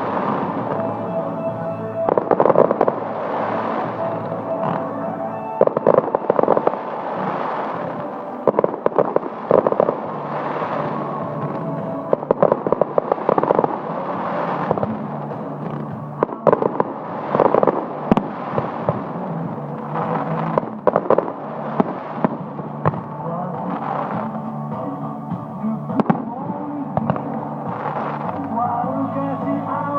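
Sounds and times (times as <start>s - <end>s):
background music: 0.0s - 29.9s
fireworks crackling: 0.0s - 29.9s.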